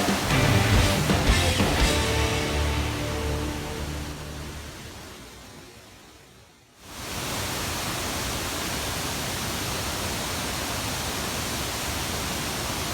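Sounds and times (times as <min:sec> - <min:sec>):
waterfall rushing: 0:00.0 - 0:06.2, 0:06.8 - 0:12.9.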